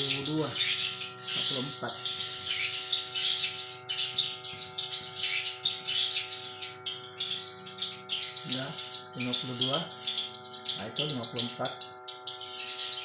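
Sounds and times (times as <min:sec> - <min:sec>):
steady hum: 0:00.0 - 0:13.0
swiftlets chirping: 0:00.0 - 0:13.0.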